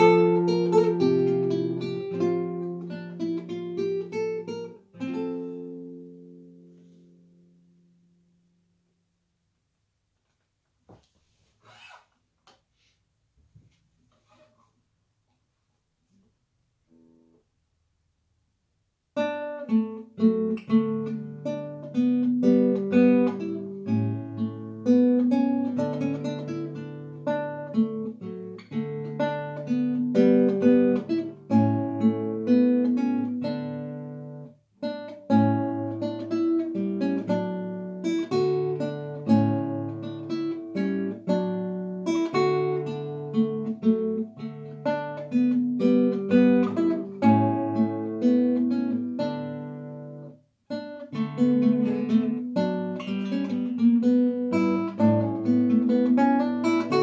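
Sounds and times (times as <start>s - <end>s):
fingerstyle classical guitar: 0.0s - 8.6s, 19.2s - 57.0s.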